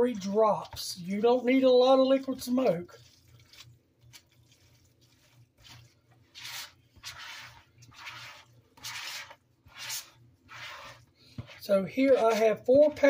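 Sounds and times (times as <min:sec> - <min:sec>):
spoon stirring food in a bowl: 0:00.1 - 0:13.0.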